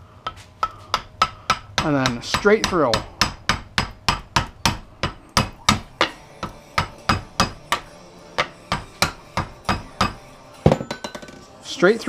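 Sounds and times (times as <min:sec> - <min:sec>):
hammer tapping on tool: 0:00.3 - 0:11.4.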